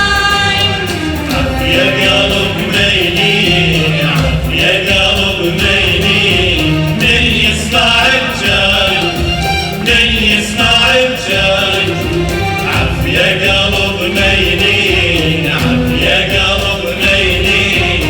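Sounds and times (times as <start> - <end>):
live music with singing: 0.0 - 18.0.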